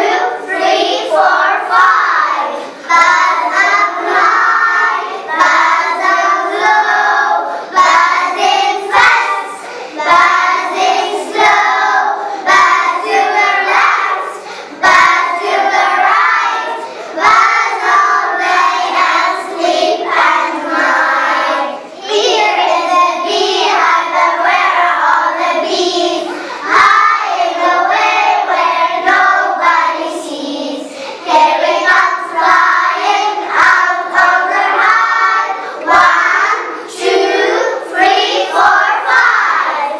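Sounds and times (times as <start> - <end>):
children singing in unison: 0.0 - 39.9.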